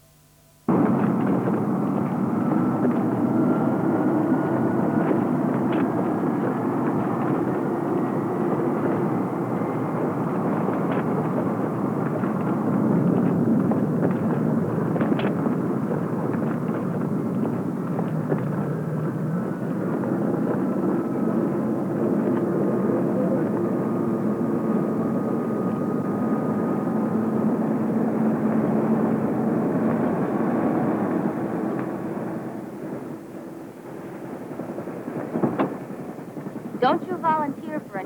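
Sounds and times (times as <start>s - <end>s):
engine drone: 0.7s - 35.2s.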